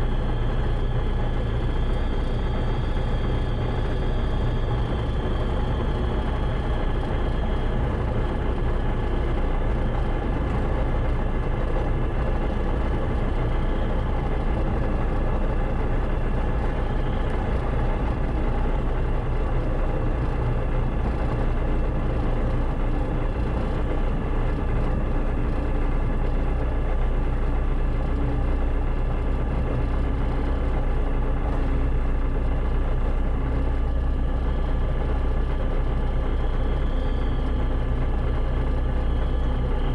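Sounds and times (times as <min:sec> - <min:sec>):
propeller plane engine idling: 0:00.0 - 0:39.9.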